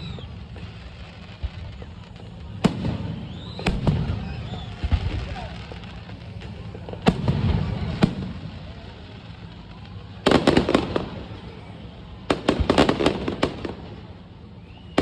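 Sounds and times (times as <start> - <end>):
firework bangs: 0.0 - 15.0
firework crackling pops: 0.0 - 15.0.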